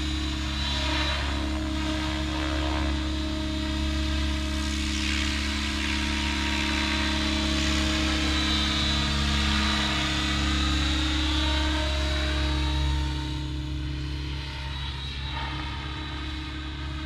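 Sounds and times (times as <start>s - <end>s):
model helicopter rotor drone: 0.0s - 17.0s.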